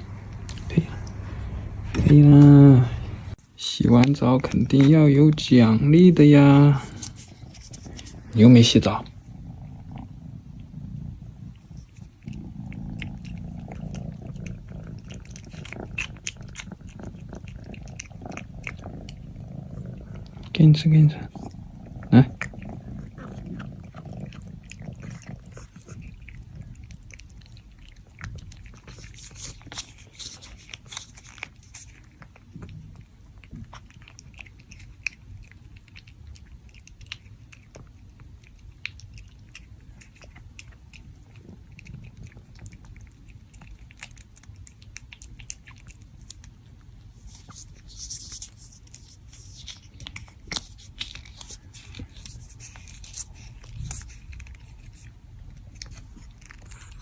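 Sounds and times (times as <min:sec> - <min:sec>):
pet crunching a treat: 0:03.6 - 0:57.0.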